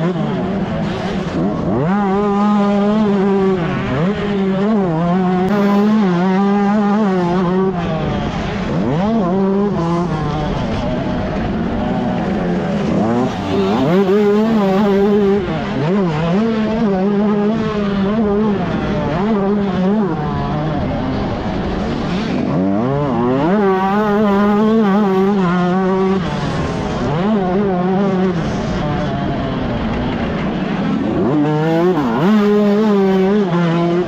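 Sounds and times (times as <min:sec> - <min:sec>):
two-stroke motorbike engine revving: 0:00.0 - 0:34.0.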